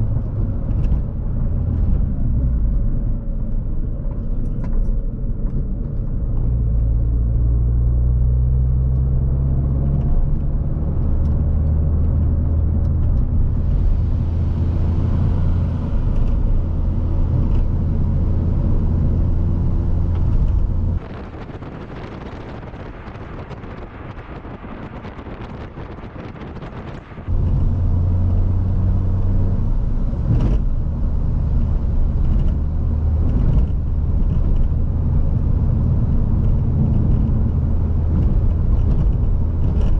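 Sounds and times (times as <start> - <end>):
car engine drone: 0.0 - 39.9.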